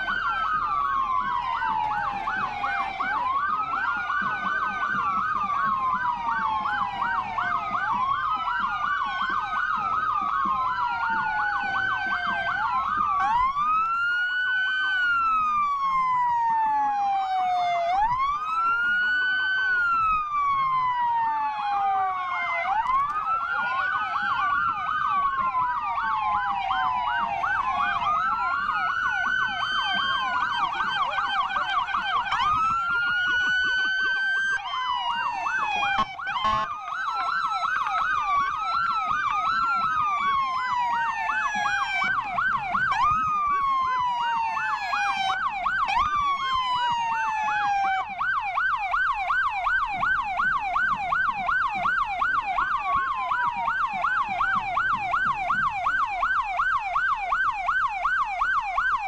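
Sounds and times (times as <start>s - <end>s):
police sirens wailing and yelping: 0.0s - 59.0s.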